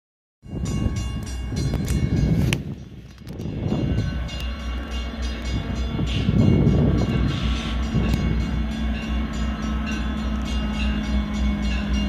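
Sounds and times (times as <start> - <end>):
diesel train rumble: 0.4 - 12.0.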